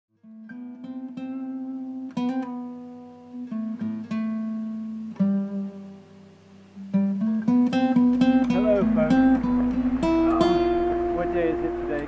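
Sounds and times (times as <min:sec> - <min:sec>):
guitar plucking notes and chords: 0:00.1 - 0:12.0.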